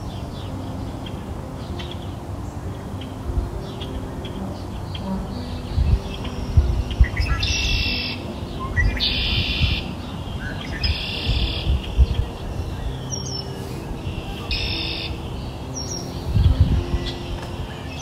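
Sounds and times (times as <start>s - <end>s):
steady low background noise: 0.0s - 18.0s.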